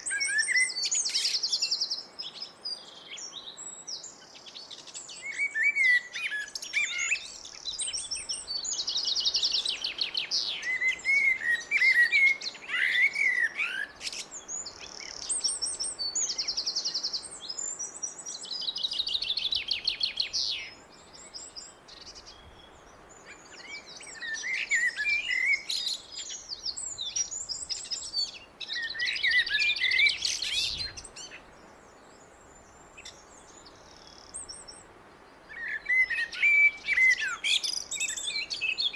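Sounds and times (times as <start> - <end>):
blackbird singing: 0.0 - 31.6, 35.5 - 38.9.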